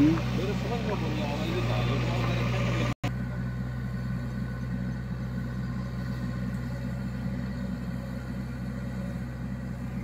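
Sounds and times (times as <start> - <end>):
diesel engines running: 0.0 - 10.0.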